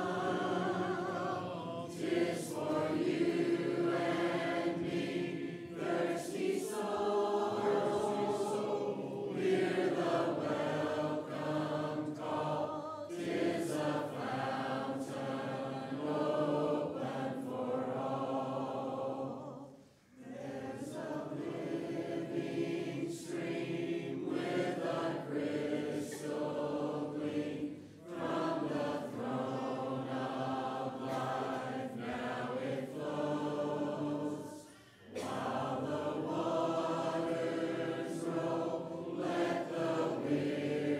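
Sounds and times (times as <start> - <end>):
congregation singing a hymn: 0.0 - 40.9.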